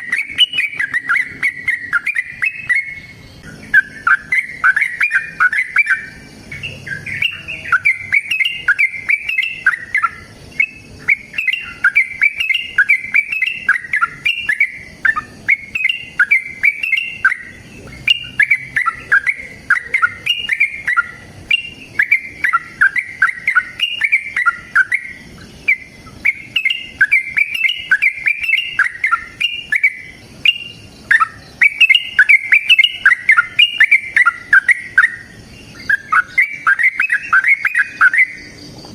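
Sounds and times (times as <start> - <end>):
bulbul chattering song: 0.0 - 38.9.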